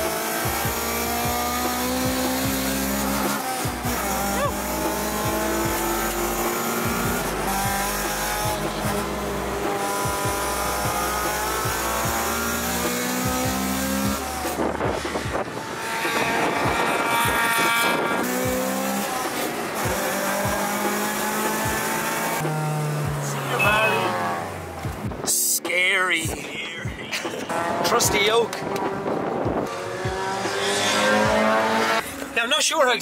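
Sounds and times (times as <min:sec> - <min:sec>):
car engine revving through gears: 0:00.0 - 0:25.2, 0:27.3 - 0:32.4.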